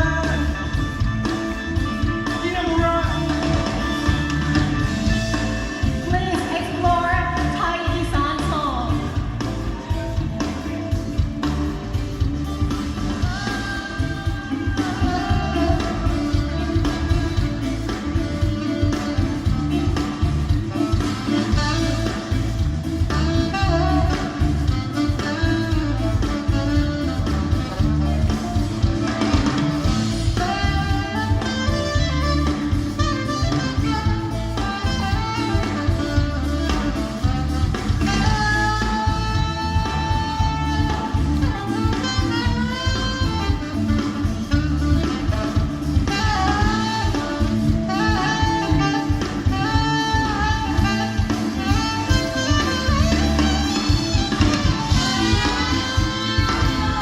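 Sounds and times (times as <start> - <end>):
bass and drums: 0.0 - 57.0
guitar: 0.0 - 57.0
saxophone melody: 0.0 - 57.0.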